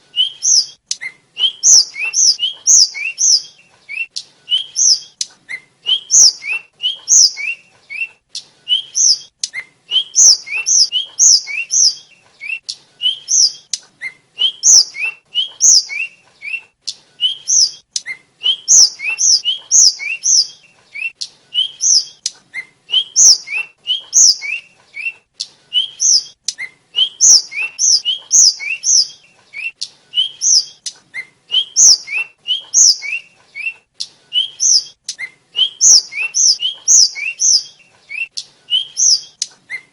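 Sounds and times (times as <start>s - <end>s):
flycatcher singing: 0.2s - 25.2s, 25.8s - 39.6s.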